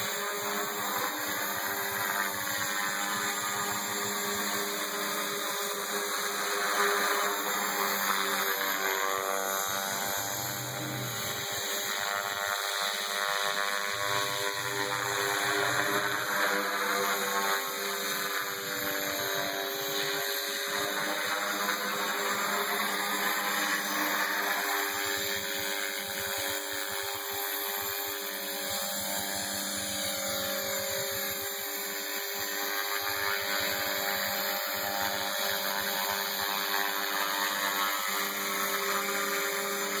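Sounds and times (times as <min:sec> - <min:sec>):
rc helicopter motor and rotors: 0:00.0 - 0:40.0.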